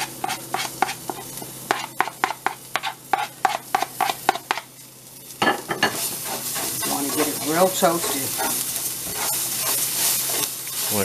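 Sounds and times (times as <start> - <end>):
spoon scraping cutting board: 0.0 - 4.6, 5.9 - 11.0.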